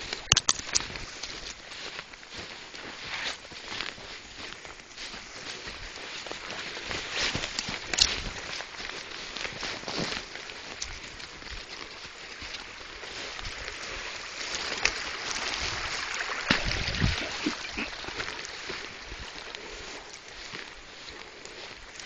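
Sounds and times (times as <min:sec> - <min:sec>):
footsteps through dry grass: 0:00.0 - 0:22.0.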